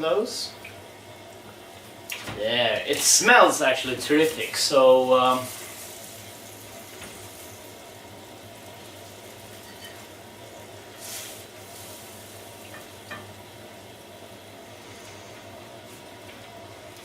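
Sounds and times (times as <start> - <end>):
food sizzling: 0.0 - 17.0.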